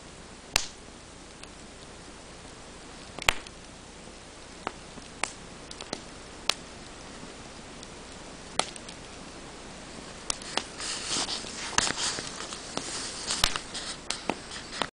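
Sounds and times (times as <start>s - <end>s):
wood fire crackling: 0.0s - 14.9s
sharp pops of burning logs: 0.1s - 14.9s.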